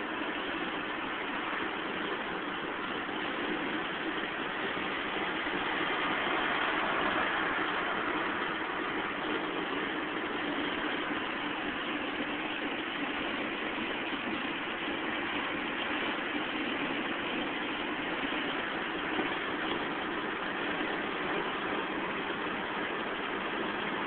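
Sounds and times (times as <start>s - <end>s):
car engine drone: 0.0s - 24.0s
tyre and wind road noise: 0.0s - 24.0s.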